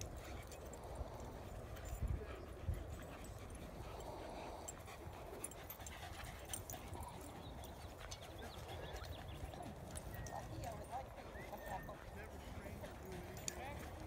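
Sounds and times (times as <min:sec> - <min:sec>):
faint dog vocal sounds: 0:00.0 - 0:14.0.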